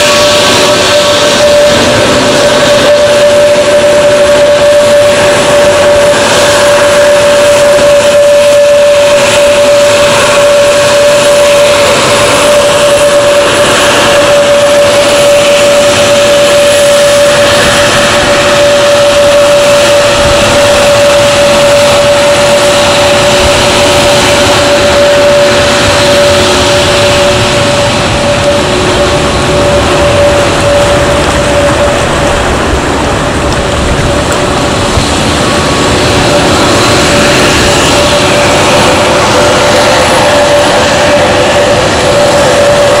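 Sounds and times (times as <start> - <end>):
jet engines running with whine: 0.0 - 43.0.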